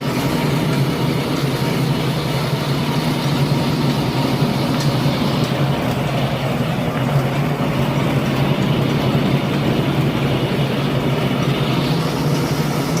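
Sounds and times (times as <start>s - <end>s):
sand-sieving machine droning: 0.0s - 13.0s.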